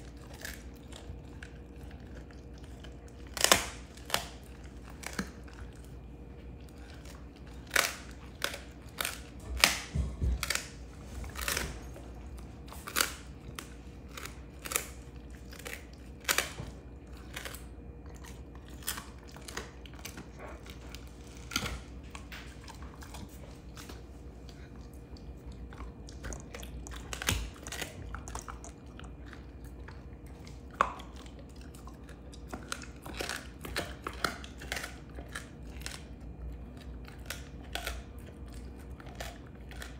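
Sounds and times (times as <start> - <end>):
dog chewing bone crunching: 0.0 - 39.9.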